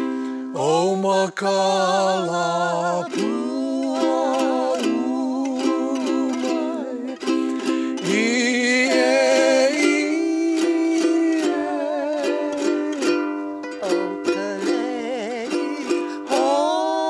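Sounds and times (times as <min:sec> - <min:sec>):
ukulele strumming: 0:00.0 - 0:00.8, 0:01.6 - 0:17.0
man and woman singing: 0:00.0 - 0:17.0.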